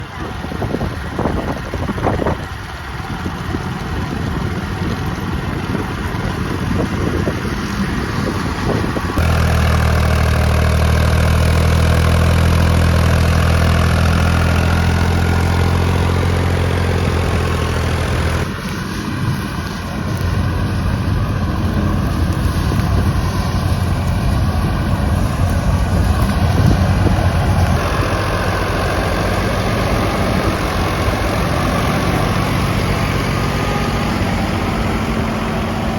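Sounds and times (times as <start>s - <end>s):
farm machinery engine running: 0.0s - 35.9s.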